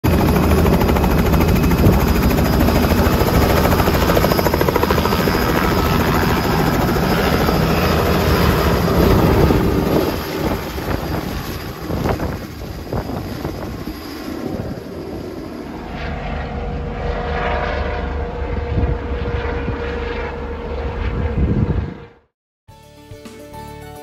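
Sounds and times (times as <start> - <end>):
helicopter rotor and engine: 0.0 - 22.2.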